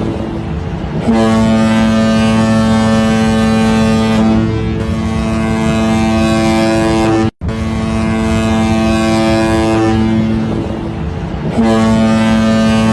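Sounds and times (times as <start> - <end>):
ship's horn blast: 0.0 - 12.9
wind noise: 0.0 - 12.9.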